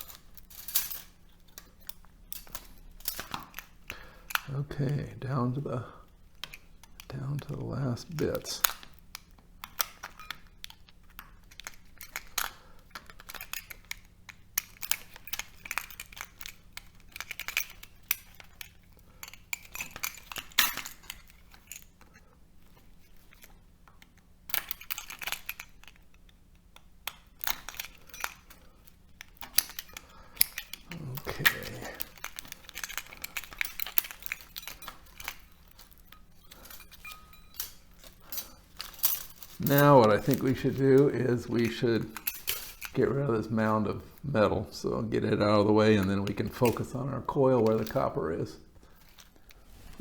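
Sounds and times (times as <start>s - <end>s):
metallic clinks and scrapes: 0.0s - 50.0s.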